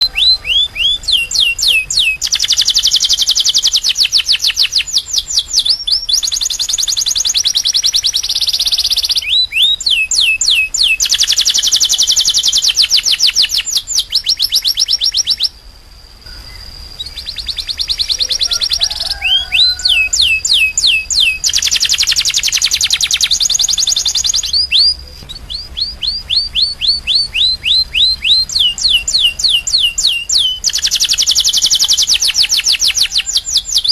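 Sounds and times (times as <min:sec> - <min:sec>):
canary singing: 0:00.0 - 0:33.9.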